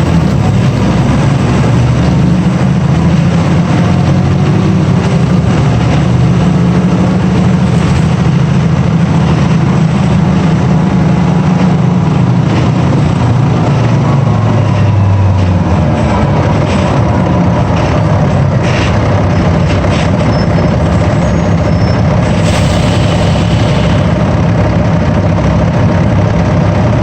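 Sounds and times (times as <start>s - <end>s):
bus diesel engine droning: 0.0s - 27.0s.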